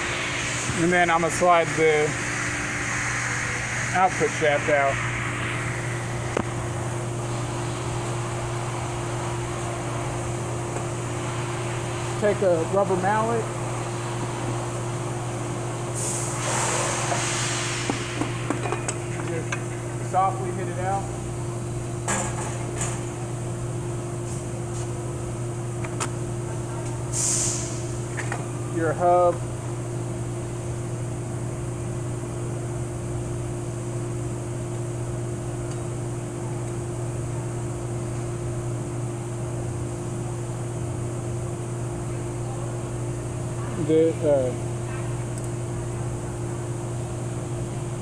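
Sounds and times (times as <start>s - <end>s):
fan machine humming: 0.0s - 48.0s.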